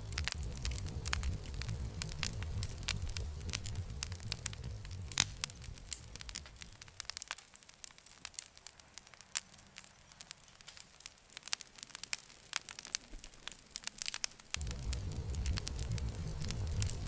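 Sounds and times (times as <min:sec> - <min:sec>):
campfire crackling: 0:00.0 - 0:17.0
soft fire hiss: 0:00.0 - 0:17.0.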